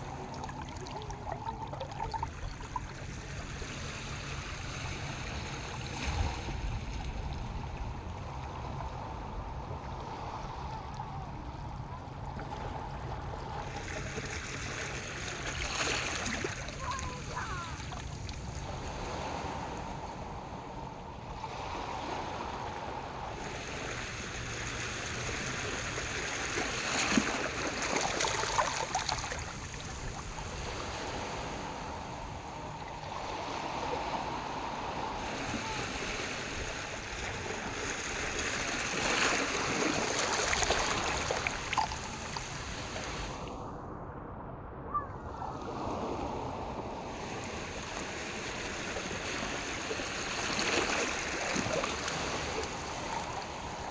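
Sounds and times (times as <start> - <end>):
waves washing toward shore: 0.0 - 43.8, 45.3 - 53.9.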